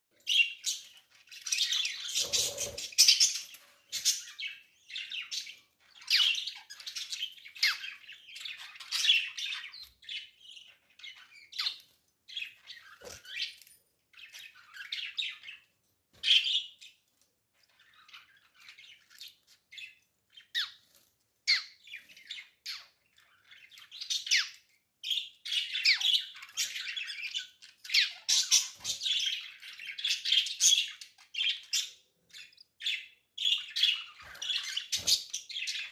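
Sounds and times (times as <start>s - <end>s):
budgies chirping and squawking: 0.2s - 20.8s, 21.4s - 35.9s.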